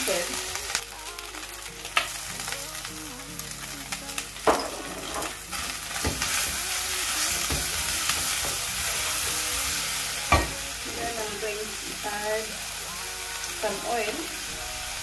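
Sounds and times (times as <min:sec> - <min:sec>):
chicken and onion sizzling in a pan: 0:00.0 - 0:15.0.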